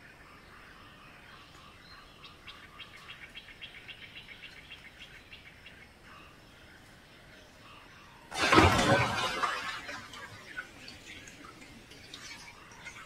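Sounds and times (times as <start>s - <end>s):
forest pond ambience: 0.0s - 13.0s.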